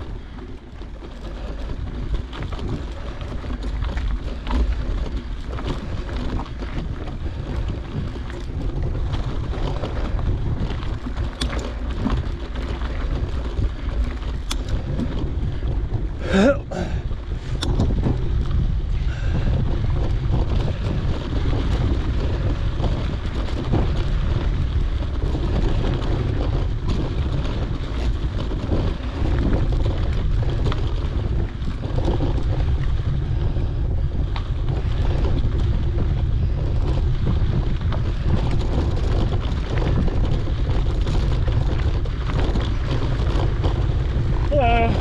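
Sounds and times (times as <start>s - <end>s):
small rattles and ticks: 0.0s - 45.0s
tyres rumbling over gravel: 0.0s - 45.0s
wind buffeting microphone: 0.0s - 45.0s.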